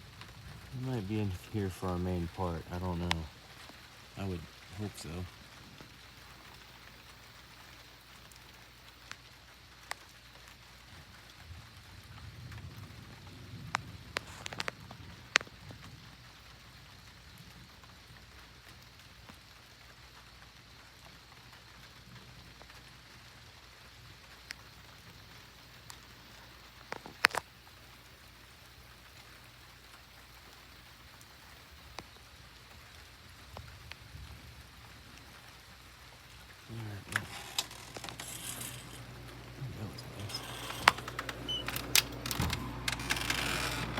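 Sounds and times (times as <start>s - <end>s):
raindrops ticking: 0.0s - 43.9s
steady rain: 0.0s - 43.9s.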